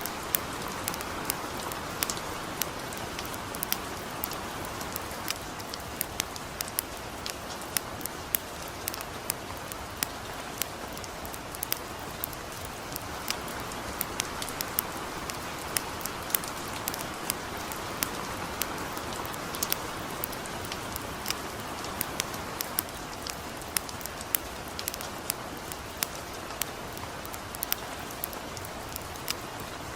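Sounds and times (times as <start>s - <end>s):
campfire crackling: 0.0s - 29.9s
light rain: 0.0s - 29.9s.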